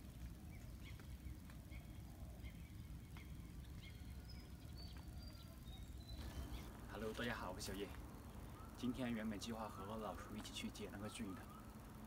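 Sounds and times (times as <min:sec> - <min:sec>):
low background rumble: 0:00.0 - 0:12.0
bird chirps: 0:00.4 - 0:12.0.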